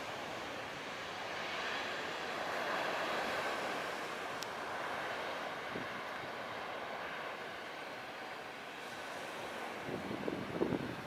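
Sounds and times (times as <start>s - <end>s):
distant jet engine roar: 0.0s - 11.0s.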